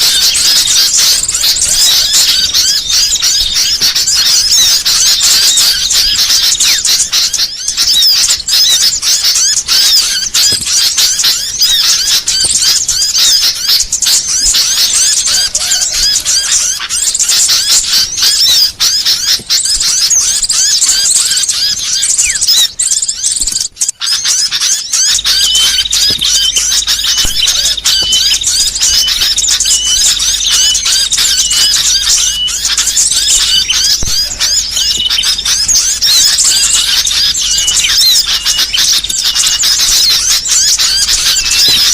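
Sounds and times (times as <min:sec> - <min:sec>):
songbirds chirping and twittering: 0:00.0 - 0:41.9.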